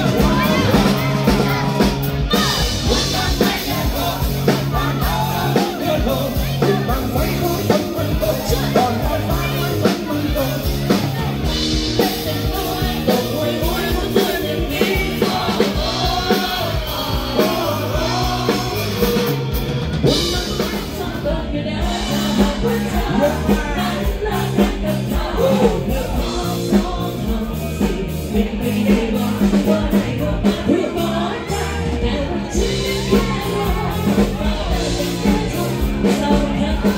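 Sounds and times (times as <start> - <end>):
drum kit: 0.0 - 36.9
electric guitar: 0.0 - 36.9
person singing: 0.0 - 36.9.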